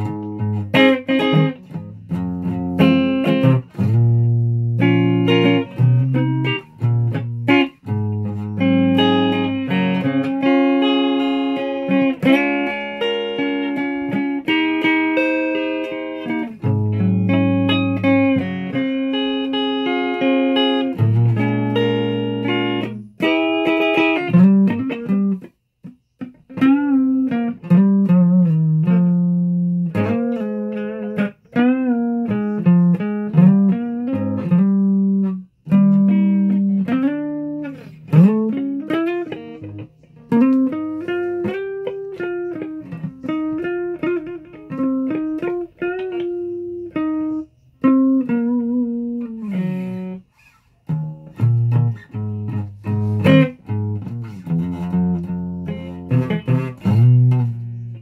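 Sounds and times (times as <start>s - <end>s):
guitar playing: 0.0s - 58.0s.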